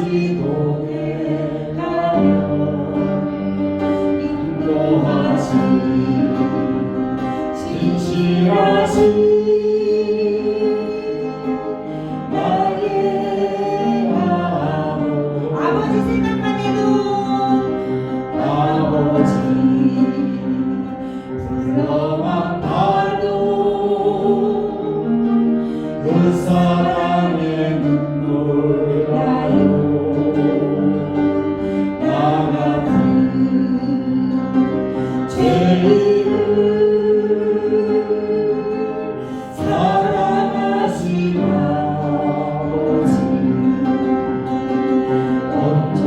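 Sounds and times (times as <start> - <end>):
congregation singing: 0.0 - 46.0
instrumental accompaniment: 0.0 - 46.0.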